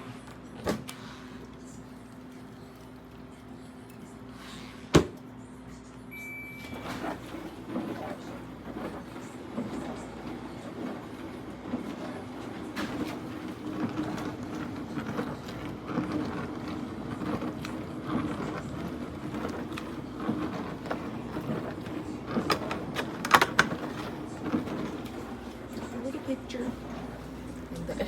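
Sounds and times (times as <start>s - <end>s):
dishwasher humming and rushing: 0.0s - 28.0s.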